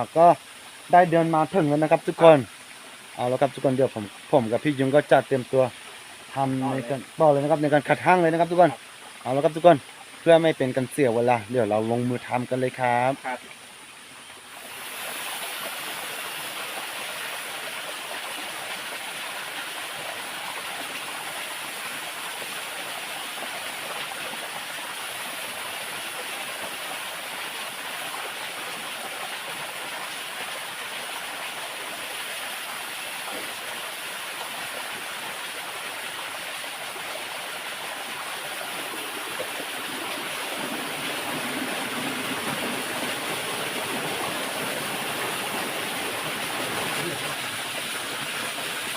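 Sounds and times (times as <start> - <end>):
waterfall rushing: 0.0 - 13.5, 14.5 - 48.9.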